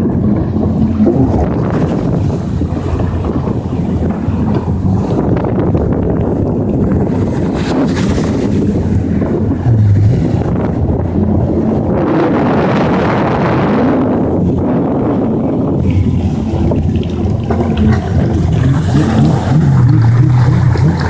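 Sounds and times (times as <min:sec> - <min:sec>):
jet ski engine running: 0:00.0 - 0:21.0
wind buffeting microphone: 0:00.0 - 0:21.0.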